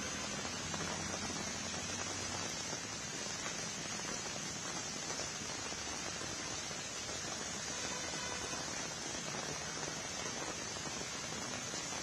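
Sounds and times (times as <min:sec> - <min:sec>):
heavy rain on flooded road: 0:00.0 - 0:12.0.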